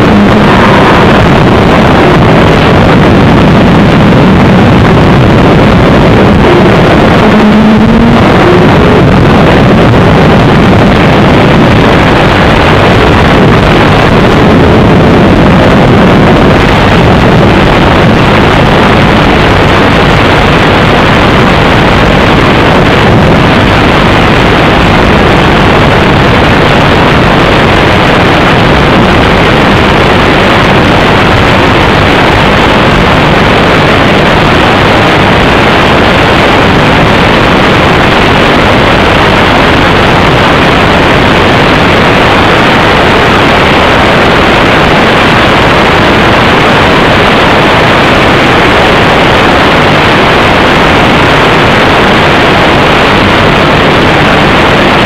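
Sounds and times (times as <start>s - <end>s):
loud static hiss: 0.0s - 55.0s.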